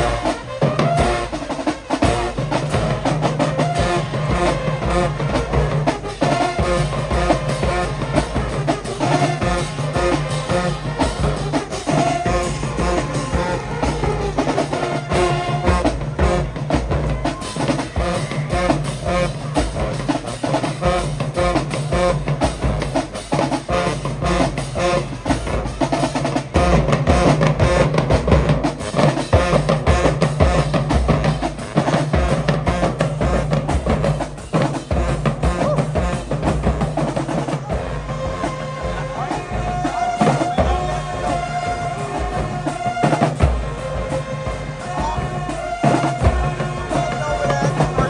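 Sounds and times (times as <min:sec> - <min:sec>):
drums beating: 0:00.0 - 0:48.0
marching band playing: 0:00.0 - 0:48.0.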